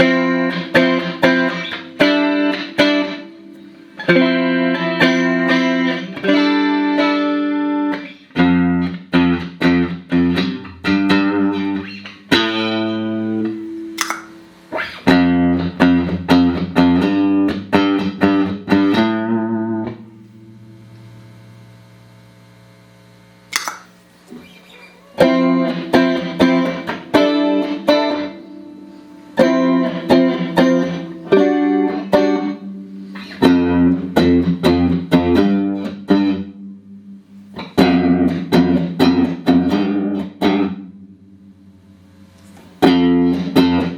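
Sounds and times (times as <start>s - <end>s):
clean electric guitar strumming: 0.0s - 21.4s, 25.2s - 41.9s, 42.8s - 43.9s.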